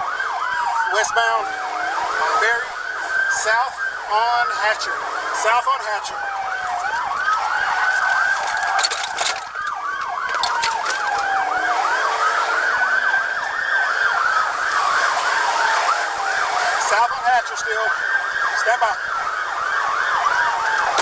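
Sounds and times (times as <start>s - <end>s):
police siren wailing: 0.0s - 21.0s
siren fast yelp: 0.0s - 21.0s.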